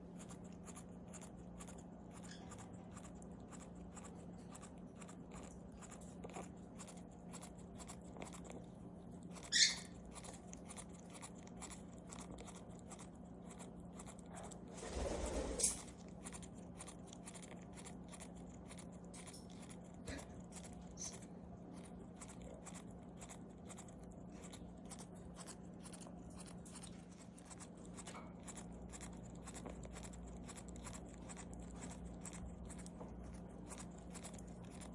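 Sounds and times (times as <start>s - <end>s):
parrot grinding its beak: 0.0s - 34.9s
steady low hum: 0.0s - 34.9s.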